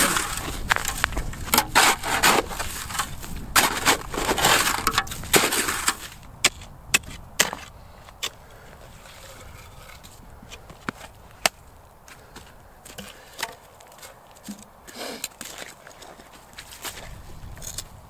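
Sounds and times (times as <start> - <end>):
snow and ice crunching: 0.0 - 18.0.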